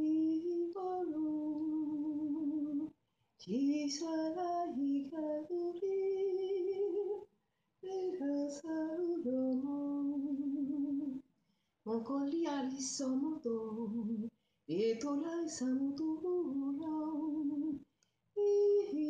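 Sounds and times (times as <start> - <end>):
woman singing unaccompanied: 0.0 - 11.2, 11.9 - 17.8, 18.4 - 19.0.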